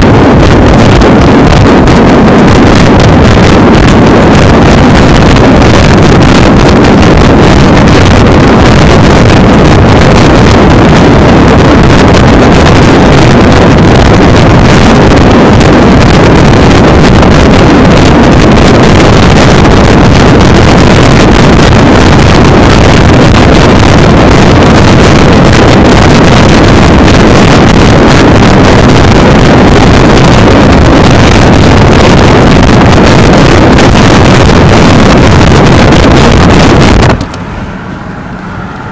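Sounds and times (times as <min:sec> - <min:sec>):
wind buffeting microphone: 0:00.0 - 0:37.4
road noise: 0:00.0 - 0:38.9.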